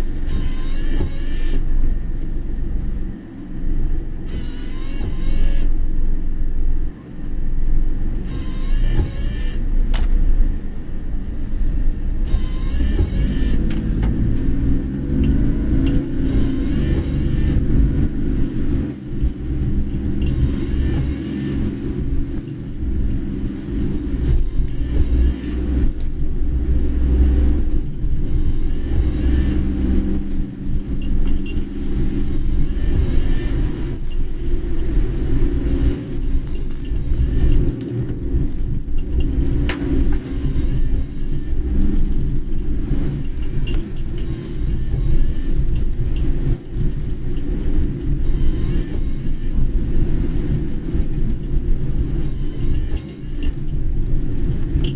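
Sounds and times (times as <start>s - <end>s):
car engine and tyres rumbling: 0.0s - 54.9s.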